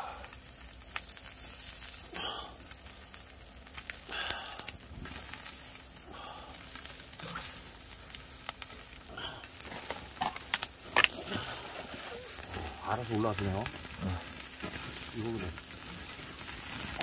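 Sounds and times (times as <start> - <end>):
beef sizzling on a charcoal grill: 0.0 - 17.0
charcoal crackles: 0.0 - 17.0.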